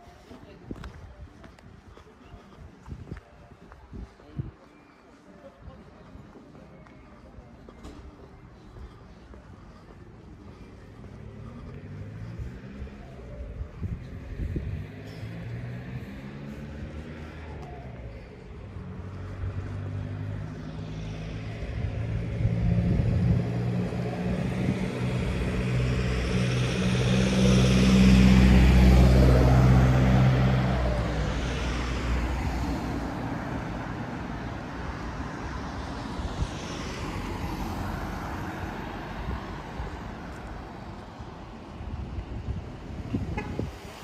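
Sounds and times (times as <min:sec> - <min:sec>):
faint vehicle passing: 0:00.0 - 0:44.0
minibus driving past: 0:06.6 - 0:44.0.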